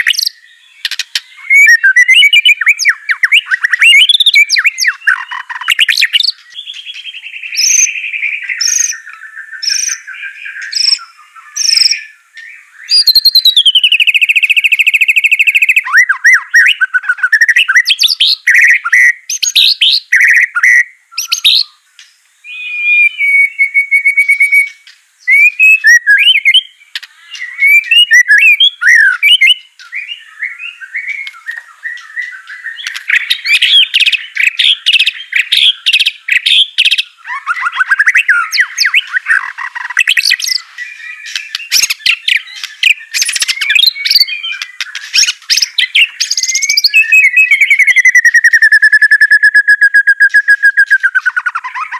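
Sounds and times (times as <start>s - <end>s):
bird singing whistles and trills: 0.0s - 51.9s.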